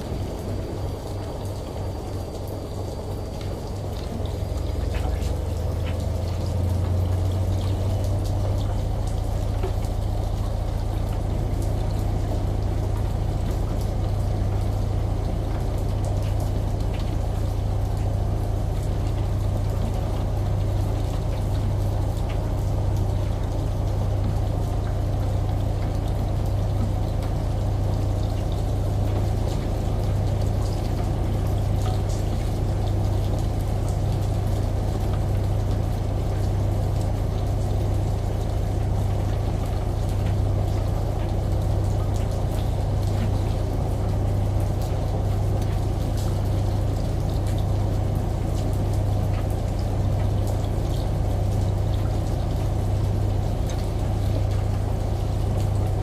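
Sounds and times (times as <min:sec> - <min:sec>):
rain: 0:00.0 - 0:56.0
shower water pouring: 0:00.0 - 0:56.0
washing machine hum: 0:00.0 - 0:56.0
water drips: 0:00.0 - 0:56.0.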